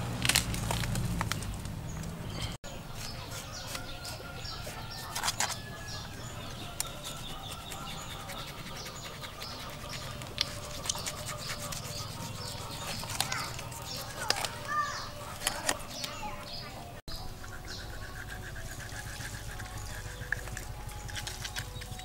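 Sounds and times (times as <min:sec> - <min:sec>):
falling bird chirps: 0:00.4 - 0:22.0
knife scraping and slicing meat: 0:02.6 - 0:16.2, 0:17.1 - 0:22.0.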